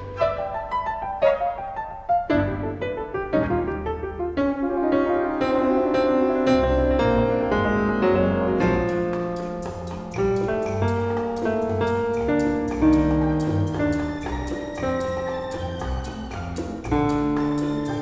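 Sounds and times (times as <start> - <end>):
instrumental piano music: 0.0 - 18.0.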